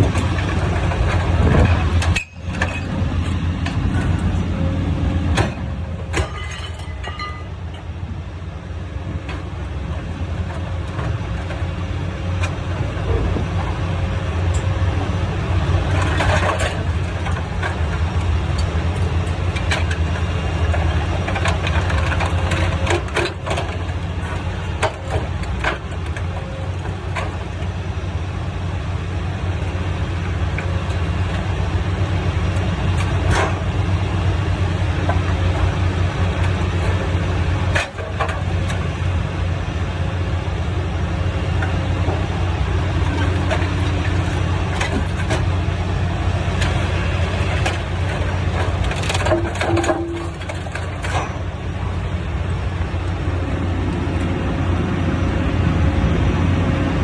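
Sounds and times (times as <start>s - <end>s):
metal clanks and bangs: 0.0s - 7.9s, 9.1s - 54.8s
hydraulic machine engine drone: 0.0s - 57.0s.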